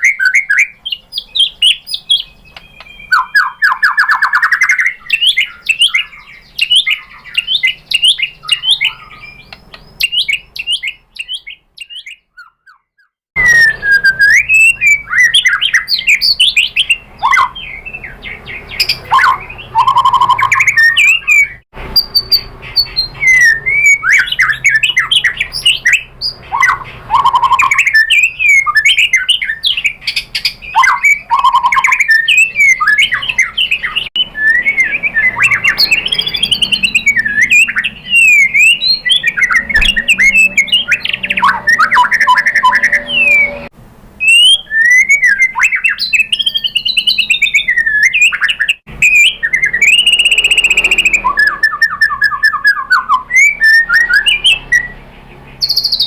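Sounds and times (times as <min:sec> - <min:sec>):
bird singing varied whistles: 0:00.0 - 0:55.0, 0:55.6 - 0:56.0.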